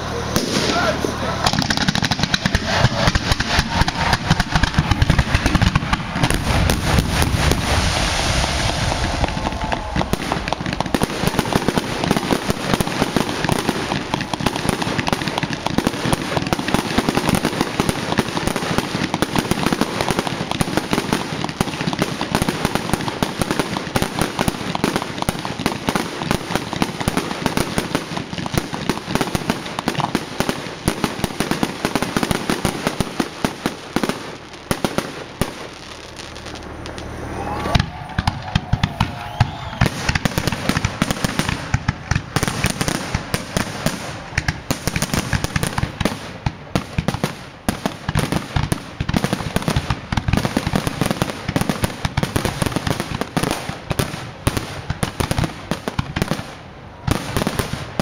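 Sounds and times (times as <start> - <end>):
fireworks booming: 0.0 - 58.0
rapid fireworks crackling: 0.0 - 58.0.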